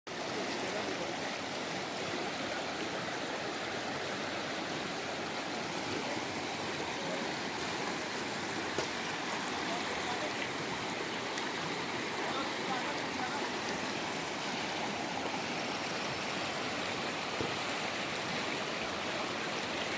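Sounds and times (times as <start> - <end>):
river water rushing: 0.1 - 19.9.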